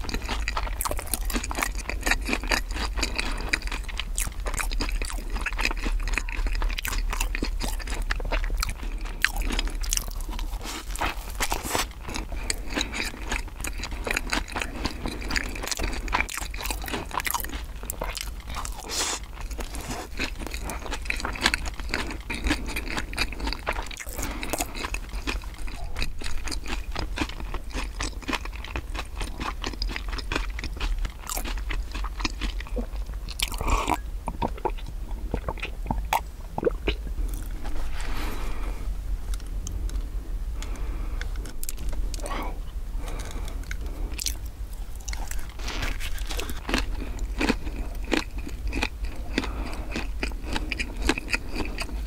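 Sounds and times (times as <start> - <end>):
chewing bread: 0.0 - 38.7, 39.3 - 52.0.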